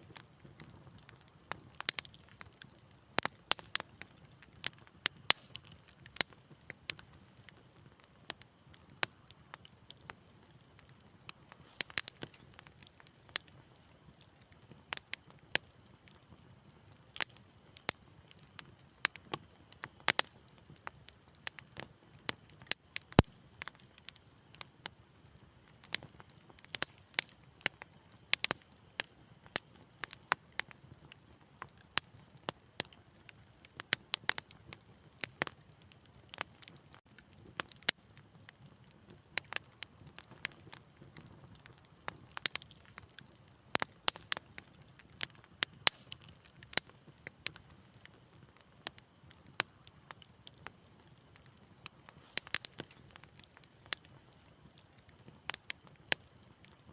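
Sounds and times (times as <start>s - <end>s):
fire crackling: 0.0s - 56.9s.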